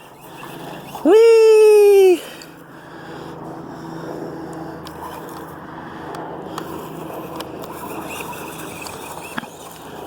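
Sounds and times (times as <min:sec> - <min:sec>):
rc truck motor hum: 0:00.0 - 0:10.0.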